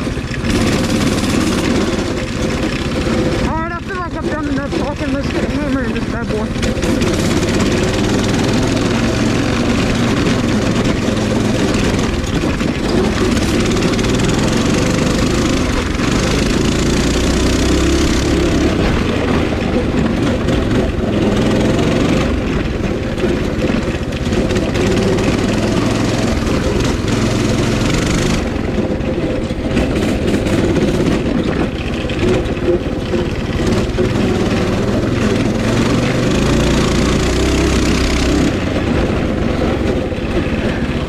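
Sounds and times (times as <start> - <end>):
mini bike engine revving: 0.0 - 41.0.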